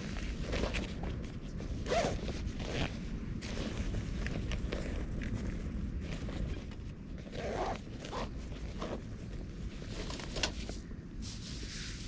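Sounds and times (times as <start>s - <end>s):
hands rummaging through backpack: 0.0s - 10.8s.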